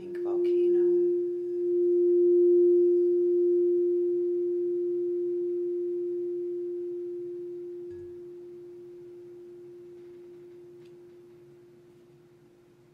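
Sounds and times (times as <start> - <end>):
singing bowl ringing: 0.0 - 12.5.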